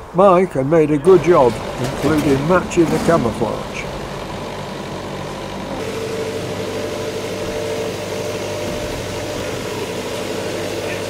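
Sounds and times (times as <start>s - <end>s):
steady humming tone: 0.5s - 11.0s
machine running drone: 0.9s - 11.0s.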